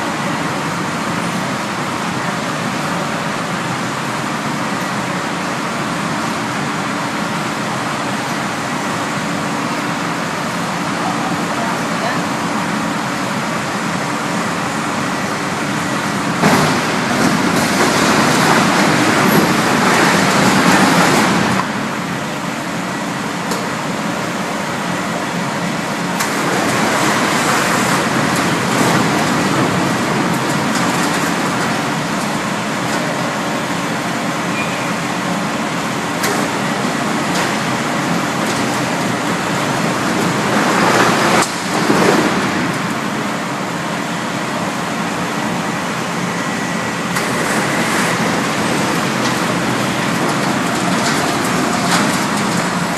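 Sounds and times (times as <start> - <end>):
recycling machinery running: 0.0 - 52.9.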